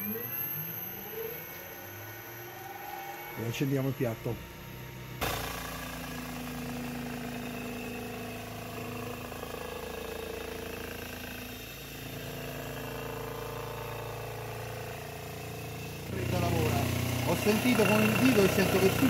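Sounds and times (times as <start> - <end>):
grinding machine humming: 0.0 - 19.0.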